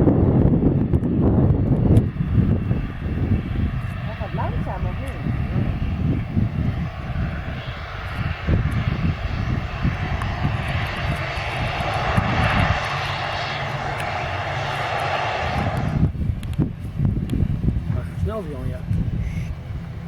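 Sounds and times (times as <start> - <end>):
airliner engines passing: 0.0 - 20.0.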